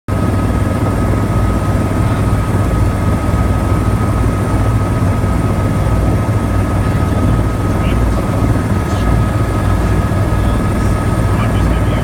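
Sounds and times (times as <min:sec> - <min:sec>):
helicopter drone: 0:00.1 - 0:12.0
high whine: 0:00.2 - 0:12.0.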